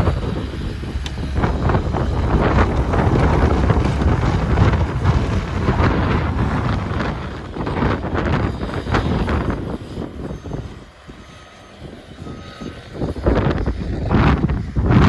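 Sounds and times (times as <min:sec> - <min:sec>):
wind gusting across microphone: 0:00.0 - 0:15.0.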